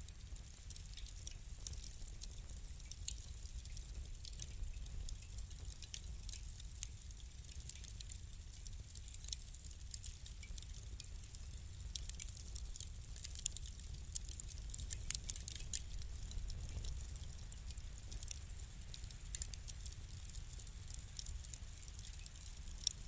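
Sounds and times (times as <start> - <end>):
low fire rumble: 0.0 - 23.0
wood fire crackling: 0.0 - 23.0.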